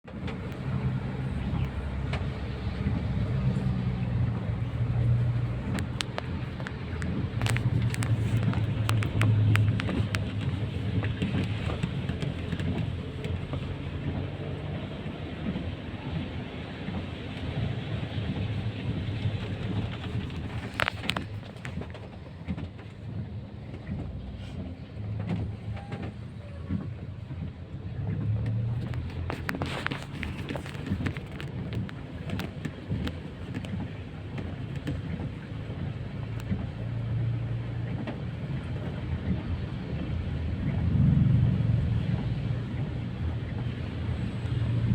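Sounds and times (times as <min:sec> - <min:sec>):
road noise: 0:00.0 - 0:44.9
vehicle engine humming: 0:00.0 - 0:44.9.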